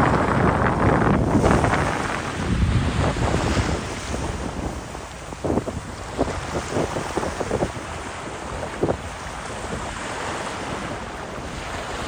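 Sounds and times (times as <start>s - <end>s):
sea waves washing in: 0.0s - 12.0s
wind buffeting microphone: 0.0s - 12.0s.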